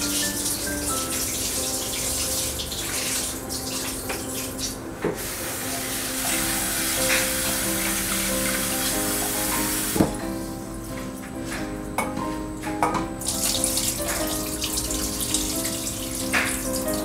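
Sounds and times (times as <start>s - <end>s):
water running into sink: 0.0s - 10.2s, 13.2s - 17.0s
background music with held notes: 0.0s - 17.0s.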